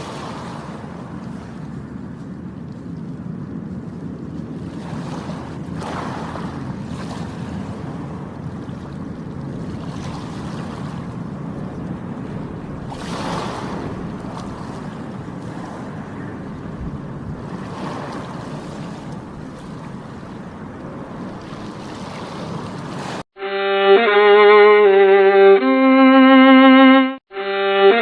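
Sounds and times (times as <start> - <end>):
sea waves washing: 0.0 - 23.3
wind: 0.0 - 28.0.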